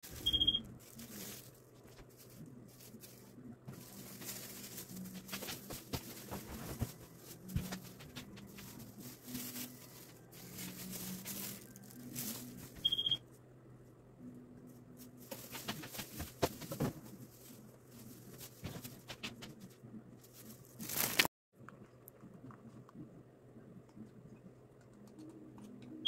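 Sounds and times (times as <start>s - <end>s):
faint low hum: 0.1s - 20.8s, 21.6s - 26.0s.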